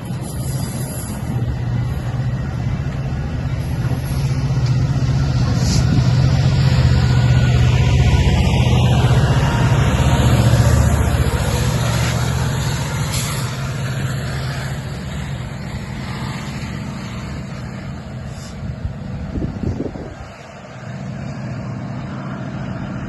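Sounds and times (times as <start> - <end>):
diesel locomotive engine throbbing: 0.0 - 23.0.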